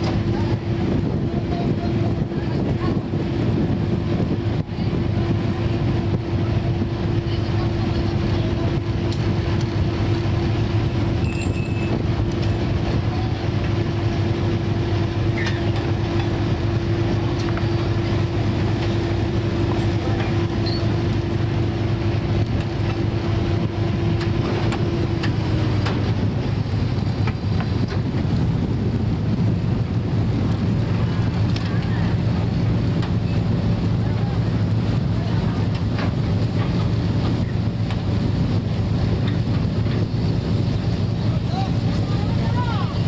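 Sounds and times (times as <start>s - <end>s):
boat engine rumbling: 0.0s - 43.0s.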